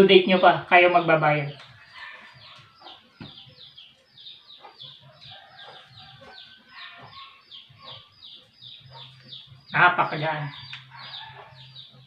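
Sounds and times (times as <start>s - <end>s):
chickens chirping: 0.0s - 12.0s.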